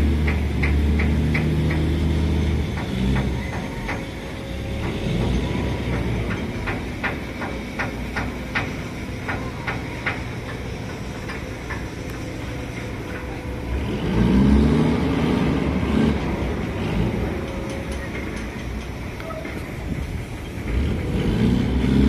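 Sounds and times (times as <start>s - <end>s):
boat engine rumbling: 0.0s - 22.0s.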